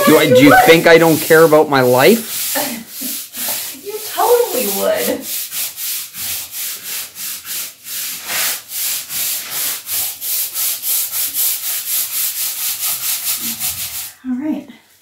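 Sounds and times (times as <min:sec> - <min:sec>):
broom scrubbing masonry wall: 0:00.0 - 0:14.3.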